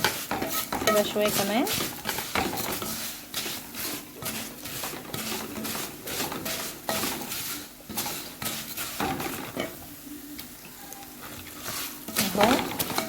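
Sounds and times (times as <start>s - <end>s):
spoon scraping pot: 0.0s - 9.8s, 11.2s - 13.0s
noodles sizzling in oil: 0.0s - 13.0s.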